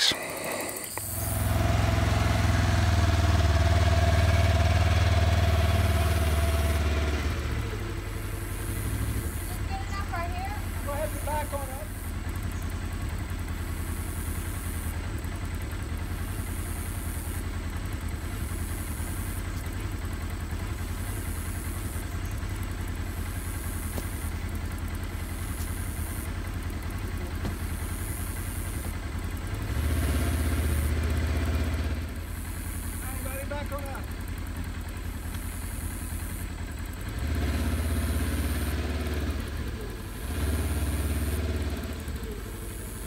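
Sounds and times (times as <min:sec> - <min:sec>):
utility vehicle engine idling: 0:00.0 - 0:43.0.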